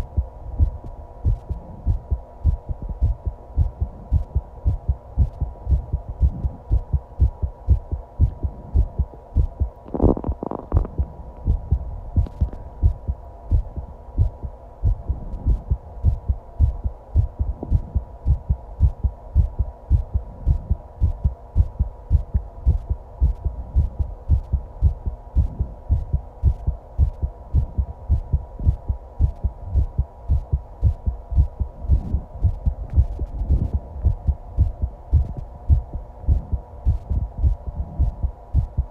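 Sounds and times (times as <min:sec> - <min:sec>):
heartbeat thumps: 0:00.0 - 0:38.9
steady hum: 0:00.0 - 0:38.9.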